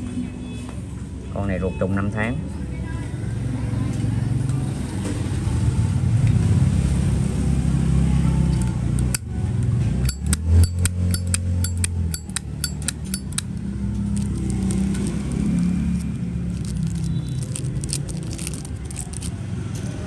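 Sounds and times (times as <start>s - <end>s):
low traffic rumble: 2.4s - 20.0s.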